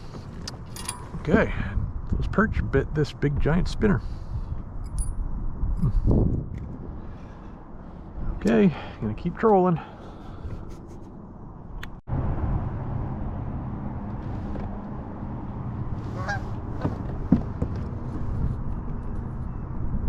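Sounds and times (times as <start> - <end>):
wind and water noise: 0.0 - 20.0.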